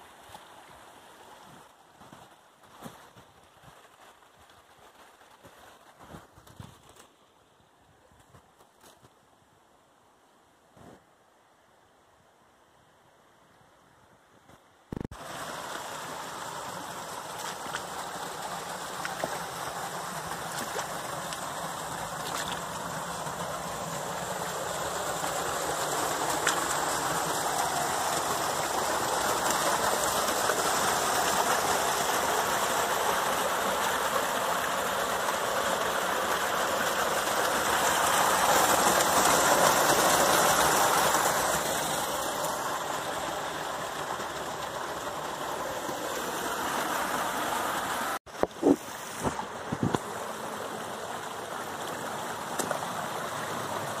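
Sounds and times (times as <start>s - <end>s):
creek rushing over rocks: 0.0s - 9.0s, 14.9s - 54.0s.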